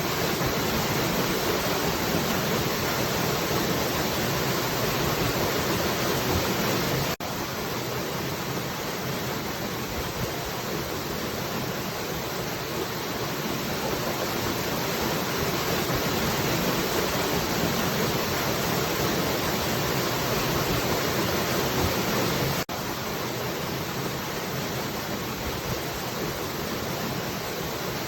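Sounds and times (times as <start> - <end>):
falling water rushing: 0.0 - 28.0.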